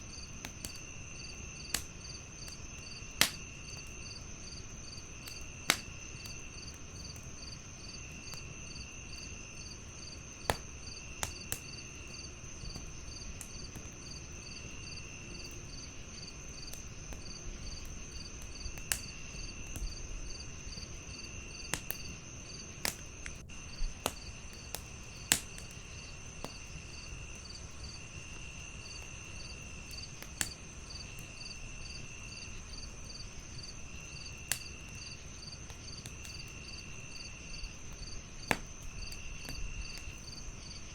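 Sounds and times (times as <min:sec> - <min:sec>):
crickets chirping: 0:00.0 - 0:40.9
wood fire crackling: 0:00.0 - 0:40.9
fire pops: 0:00.1 - 0:40.9.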